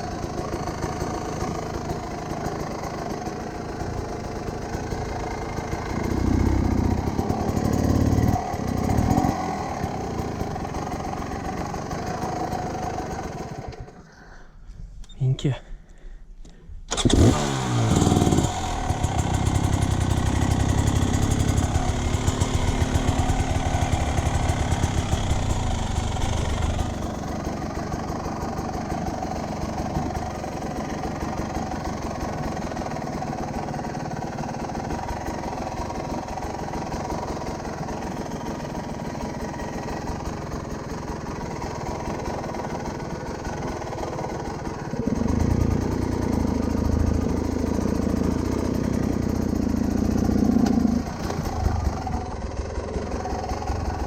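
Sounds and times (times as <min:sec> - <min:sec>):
motorcycle engine idling: 0:00.0 - 0:14.8, 0:15.8 - 0:54.0.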